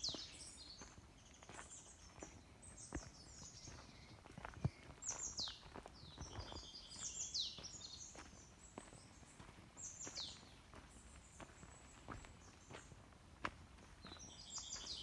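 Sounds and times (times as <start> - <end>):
walking footsteps: 0.1 - 15.0.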